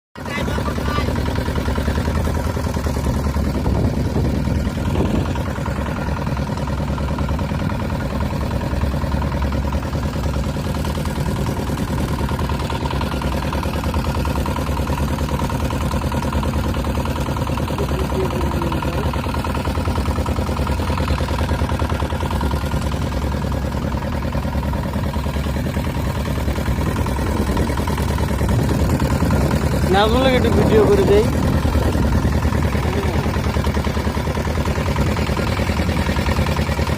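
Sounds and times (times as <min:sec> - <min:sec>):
boat engine running: 0:00.2 - 0:36.9.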